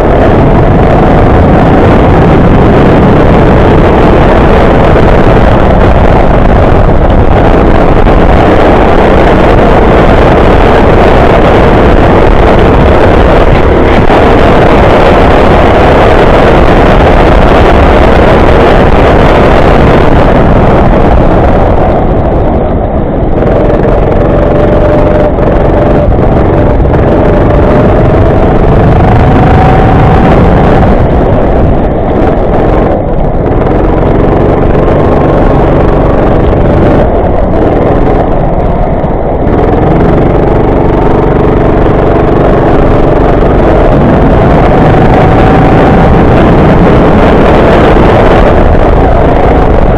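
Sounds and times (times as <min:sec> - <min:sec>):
go-kart engine running hard: 0:00.0 - 0:49.9
steady rushing noise: 0:00.0 - 0:49.9.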